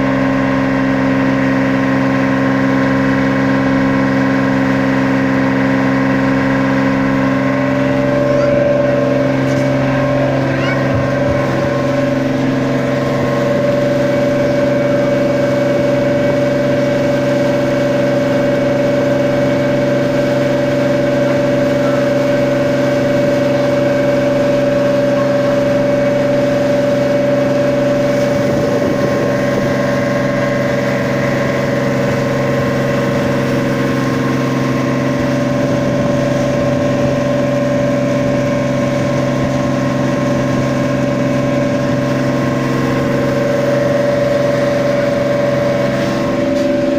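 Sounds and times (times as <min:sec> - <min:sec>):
boat engine droning: 0:00.0 - 0:46.9.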